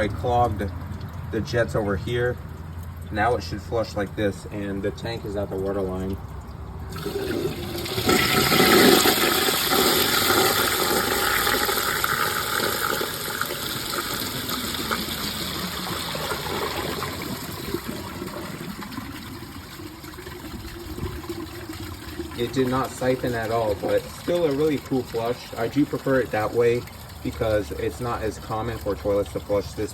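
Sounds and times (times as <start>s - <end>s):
toilet flushing water rush: 0.0s - 29.9s.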